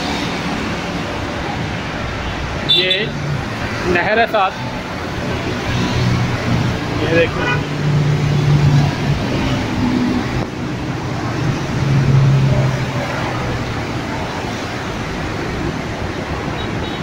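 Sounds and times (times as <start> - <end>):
car and motorbike traffic: 0.0 - 17.0
vehicle engine hum: 0.0 - 17.0.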